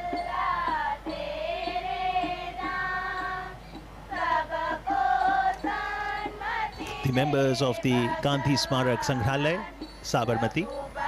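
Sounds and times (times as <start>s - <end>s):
music: 0.0s - 11.0s
voices singing long notes: 0.0s - 11.0s.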